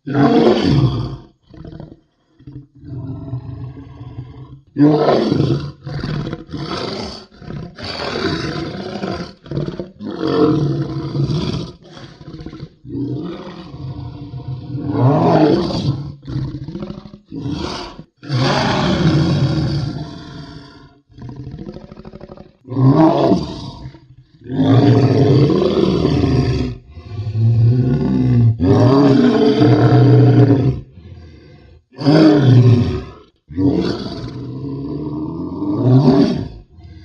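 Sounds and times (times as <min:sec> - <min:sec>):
dinosaur roars and growls: 0:00.0 - 0:37.0.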